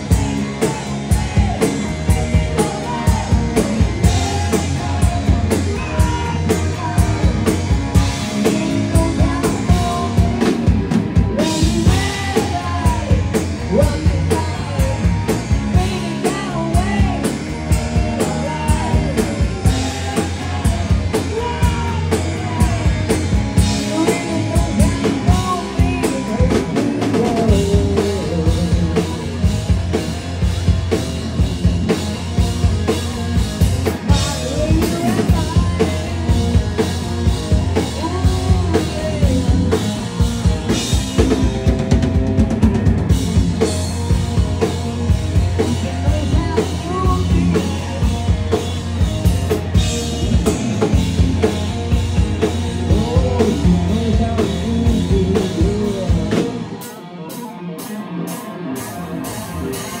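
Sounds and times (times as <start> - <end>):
drum kit: 0.0 - 60.0
hard rock band playing: 0.0 - 60.0.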